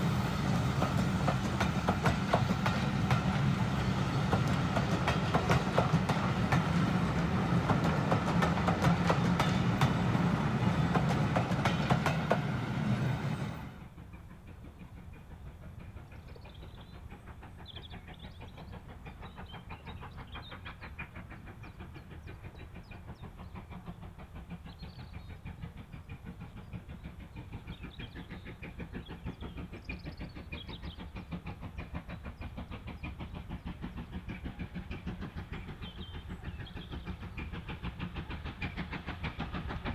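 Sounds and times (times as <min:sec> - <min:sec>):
train wheels clattering over rails: 0:00.0 - 0:13.9, 0:17.8 - 0:39.9.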